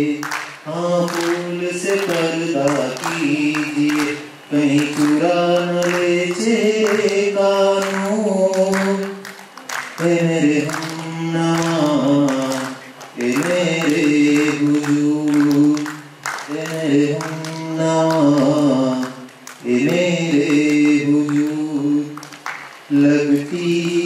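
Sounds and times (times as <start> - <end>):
person singing unaccompanied: 0.0 - 24.0.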